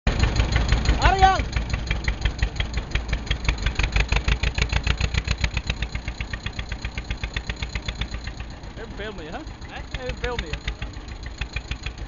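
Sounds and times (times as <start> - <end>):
tractor diesel engine knocking: 0.1 - 12.0.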